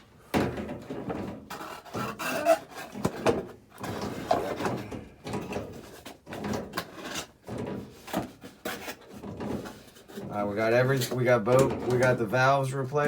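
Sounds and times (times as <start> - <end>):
parts and tools rustling and knocking: 0.0 - 12.8.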